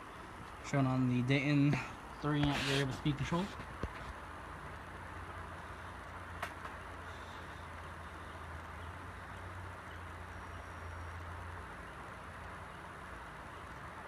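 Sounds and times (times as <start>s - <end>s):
ceiling fan whirring: 0.0s - 14.0s.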